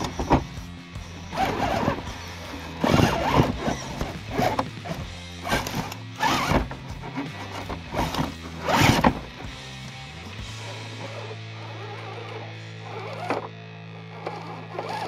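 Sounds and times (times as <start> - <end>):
rc car motor whirring: 0.0 - 9.6, 10.4 - 15.0
background music with low notes: 0.0 - 15.0.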